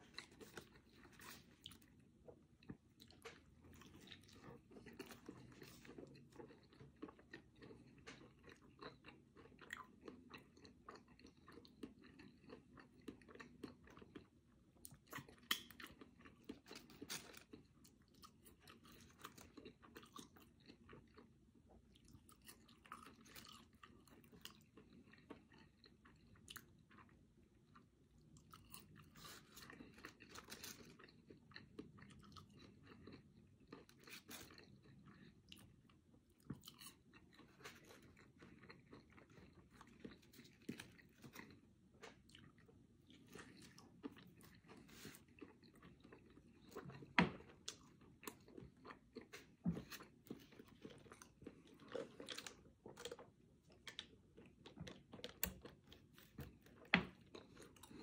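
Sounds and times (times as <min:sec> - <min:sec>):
chewing and crunching fries: 0:00.0 - 0:58.0.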